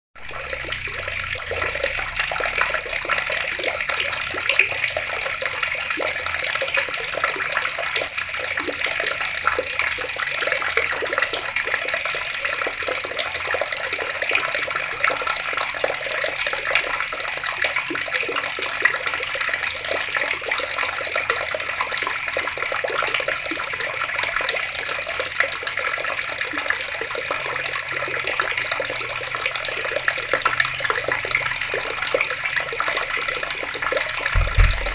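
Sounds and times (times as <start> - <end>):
water running from tap: 0.2 - 34.9.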